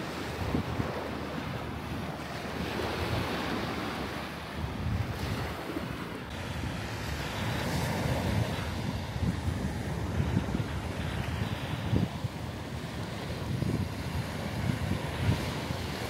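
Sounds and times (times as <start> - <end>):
small waves breaking on shore: 0.0 - 16.0
wind buffeting microphone: 0.0 - 16.0.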